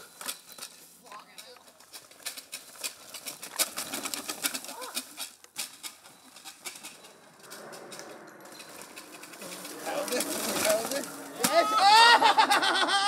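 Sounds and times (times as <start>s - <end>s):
twigs crackling under wheels: 0.0s - 12.8s
bicycle tyres rolling on dirt: 0.0s - 12.9s
bike rattling: 0.0s - 13.0s.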